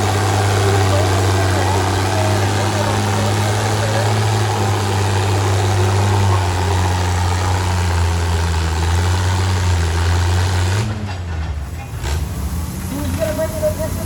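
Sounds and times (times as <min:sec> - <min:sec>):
tractor engine running hard: 0:00.0 - 0:14.0.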